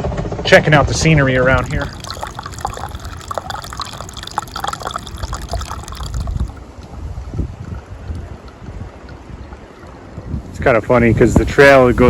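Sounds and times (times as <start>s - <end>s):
wind rumbling on microphone: 0.8s - 12.0s.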